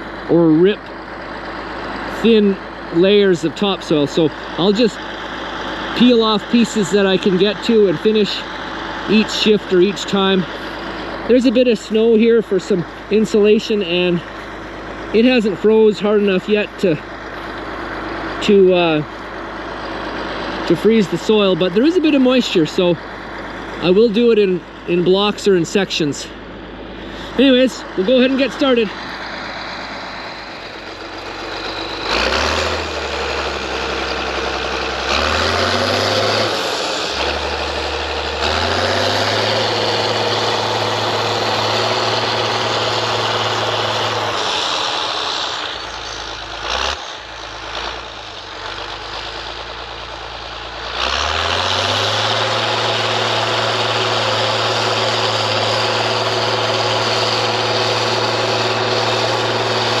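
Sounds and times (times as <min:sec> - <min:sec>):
diesel engine revving: 0:00.0 - 1:00.0.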